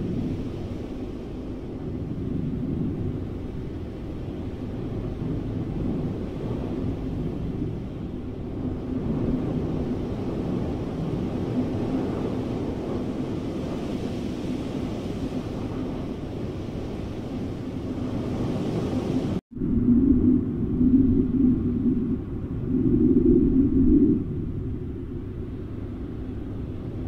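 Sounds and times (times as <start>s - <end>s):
low rushing wind: 0.0s - 27.0s.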